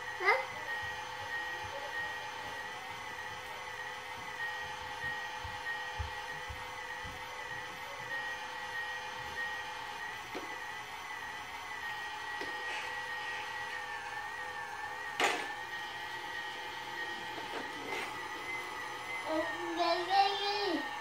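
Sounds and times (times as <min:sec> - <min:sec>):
toy vacuum cleaner whine: 0:00.0 - 0:21.0.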